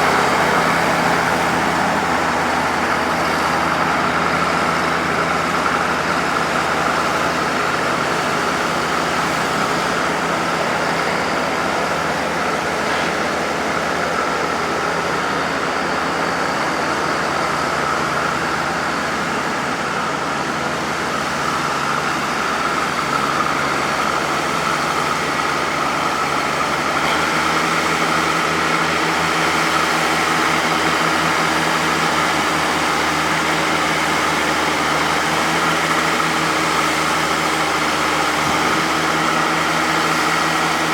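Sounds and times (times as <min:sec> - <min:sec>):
backhoe engine running: 0:00.0 - 0:40.9.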